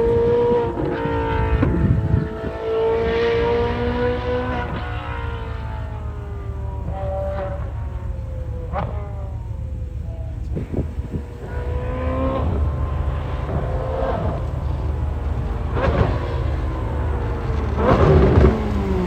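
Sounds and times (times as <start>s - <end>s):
exhaust cracks: 0.0s - 19.0s
sports car engine revving: 0.0s - 19.0s.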